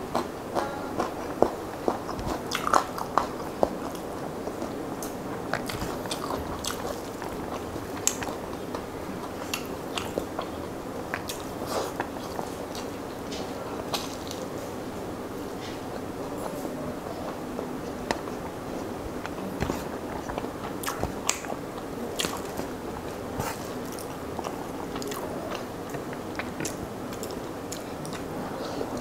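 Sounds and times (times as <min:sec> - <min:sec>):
wet chewing and mouth clicks: 0:00.1 - 0:14.5, 0:17.3 - 0:28.3.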